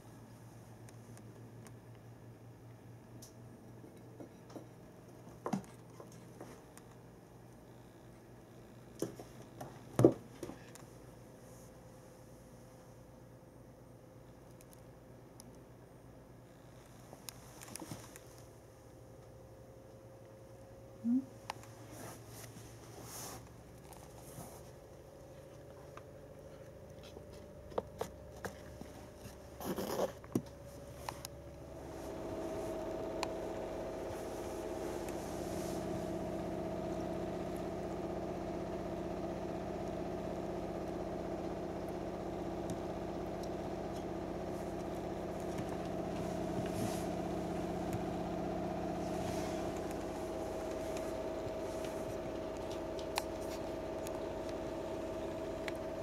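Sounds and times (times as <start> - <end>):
steady hum with held tones: 0.0 - 56.0.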